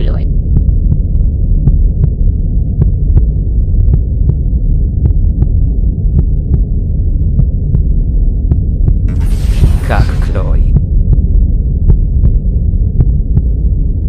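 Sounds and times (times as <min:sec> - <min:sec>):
muffled low rumble: 0:00.0 - 0:14.0.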